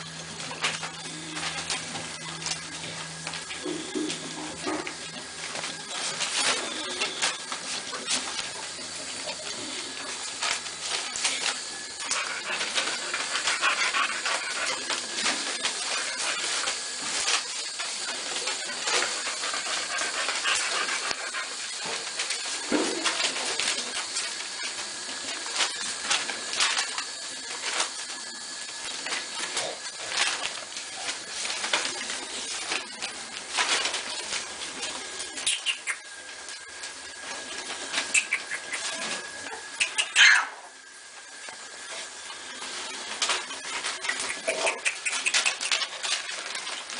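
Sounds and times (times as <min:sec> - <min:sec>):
paper rustling and crinkling: 0:00.0 - 0:40.0, 0:40.7 - 0:46.9.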